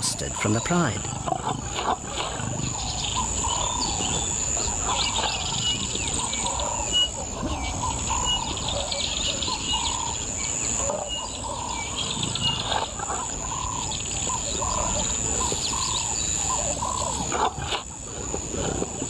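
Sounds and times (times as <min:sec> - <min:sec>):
birds chirping and trilling: 0:00.0 - 0:19.0.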